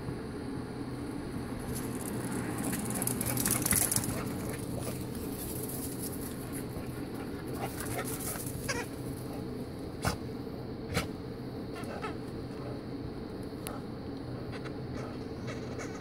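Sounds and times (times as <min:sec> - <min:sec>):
steady low background noise: 0:00.0 - 0:16.0.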